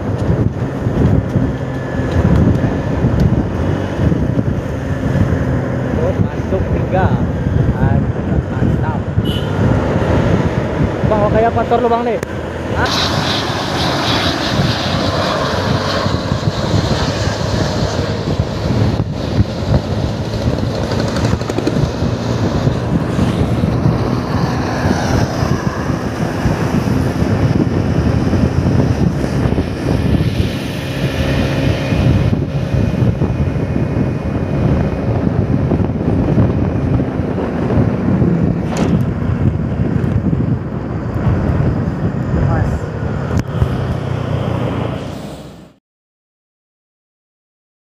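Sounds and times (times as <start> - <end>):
vehicle engine and road noise: 0.0 - 45.8.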